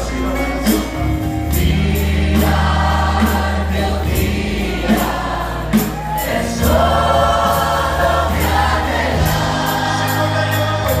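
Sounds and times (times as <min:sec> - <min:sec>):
congregation singing a hymn: 0:00.0 - 0:11.0
drums and cymbals: 0:00.0 - 0:11.0.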